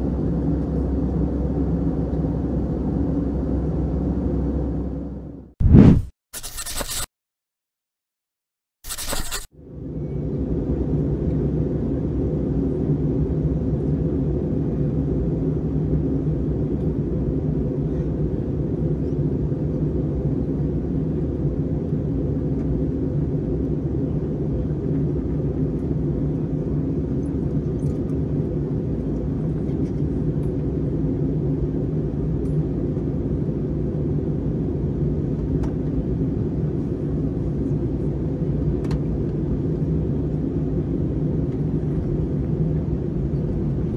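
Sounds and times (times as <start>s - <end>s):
airliner cabin rumble and hum: 0.0s - 5.4s, 9.6s - 43.9s.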